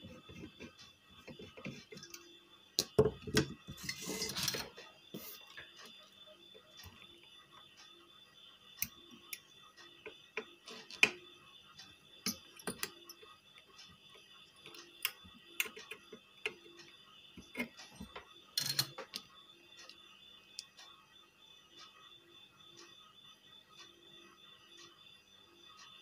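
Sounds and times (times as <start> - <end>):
faint steady high tone: 0.0 - 26.0.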